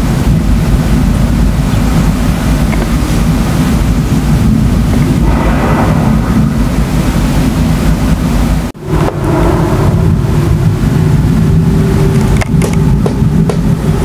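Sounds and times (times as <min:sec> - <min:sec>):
low rumbling thunder: 0:00.0 - 0:14.0
steady hum: 0:00.0 - 0:14.0.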